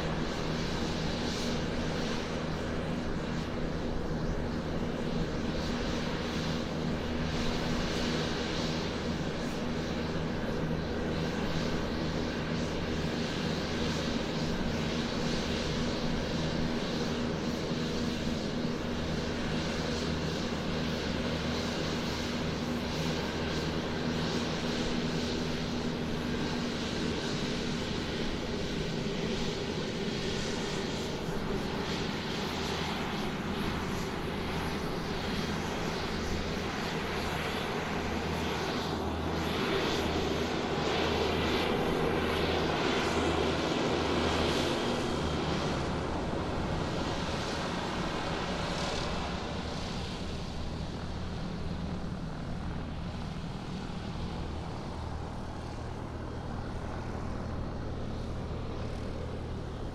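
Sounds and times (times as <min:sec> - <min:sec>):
airplane engines taxiing: 0:00.0 - 0:59.9.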